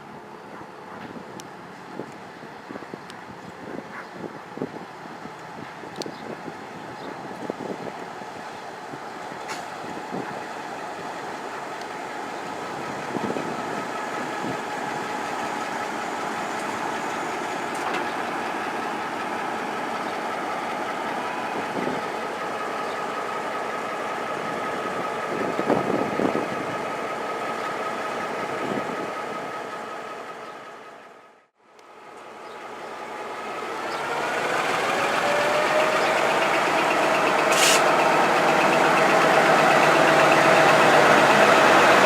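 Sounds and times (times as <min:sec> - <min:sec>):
diesel locomotive engine whining: 0:00.0 - 0:42.0.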